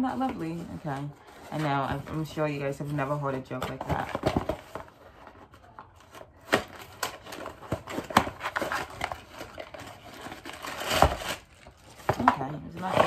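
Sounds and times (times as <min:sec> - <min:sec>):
cardboard rustle: 0:00.2 - 0:13.0.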